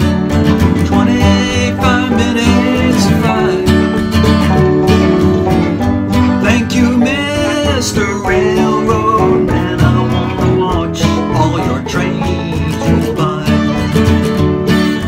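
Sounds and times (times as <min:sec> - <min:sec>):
bluegrass band playing: 0:00.0 - 0:15.0.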